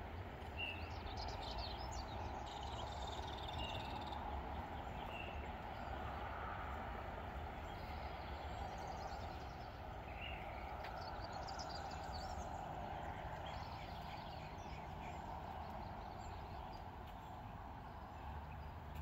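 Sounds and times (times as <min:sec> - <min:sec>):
car traffic hum: 0:00.0 - 0:19.0
small birds chirping: 0:00.0 - 0:19.0.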